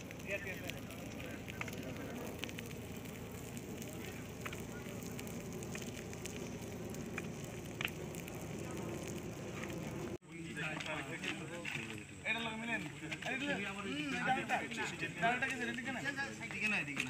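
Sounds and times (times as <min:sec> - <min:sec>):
fire hissing: 0:00.0 - 0:16.6
fire crackling and popping: 0:00.0 - 0:17.0.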